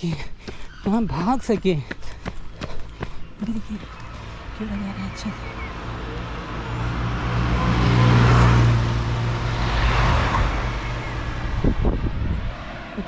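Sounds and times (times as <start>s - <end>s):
vehicle passing on road: 0.5s - 13.0s.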